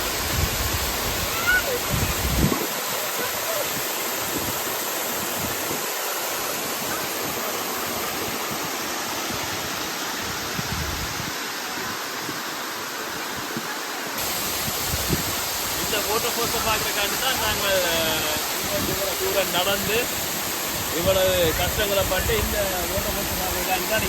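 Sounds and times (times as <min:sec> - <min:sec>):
waterfall rushing and splashing: 0:00.0 - 0:24.0.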